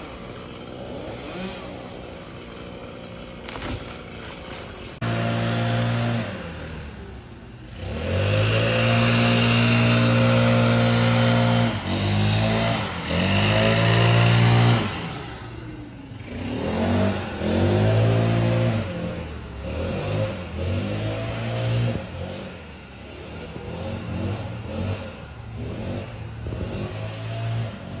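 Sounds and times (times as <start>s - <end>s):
engine revving: 0.0s - 2.8s, 5.0s - 28.0s.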